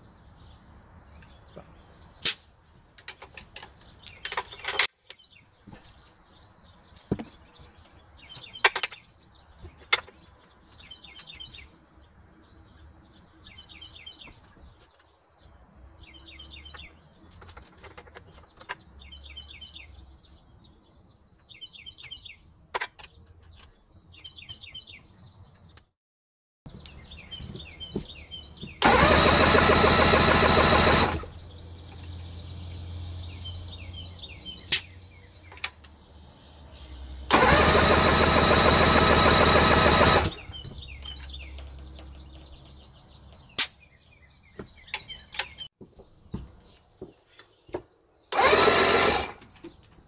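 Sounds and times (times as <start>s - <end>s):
songbird chirping trill: 0.0s - 25.9s, 26.7s - 29.6s, 31.2s - 37.6s, 40.3s - 50.0s.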